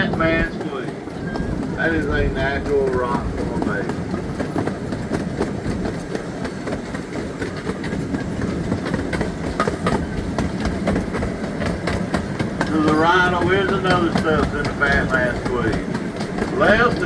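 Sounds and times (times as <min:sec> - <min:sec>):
train running rumble: 0:00.0 - 0:17.0
wheels clicking over rail joints: 0:00.0 - 0:17.0.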